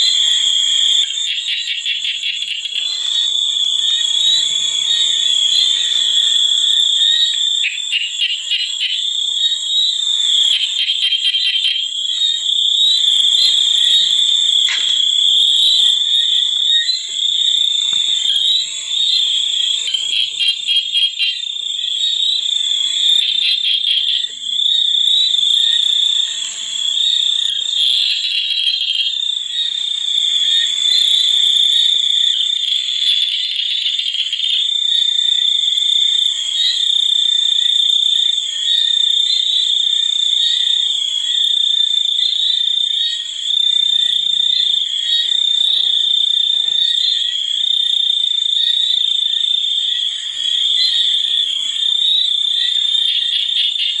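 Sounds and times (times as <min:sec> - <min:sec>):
frogs and insects trilling: 0:00.0 - 0:54.0
rapid pulsed frog calls: 0:00.0 - 0:54.0.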